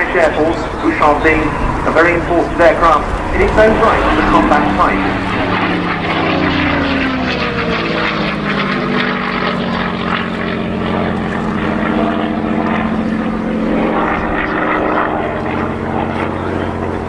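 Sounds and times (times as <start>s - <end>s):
piston aircraft engine flying past: 0.0s - 17.0s.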